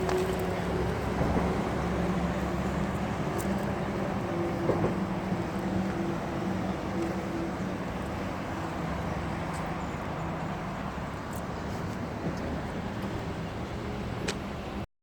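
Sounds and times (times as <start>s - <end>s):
continuous rushing noise: 0.0s - 14.9s.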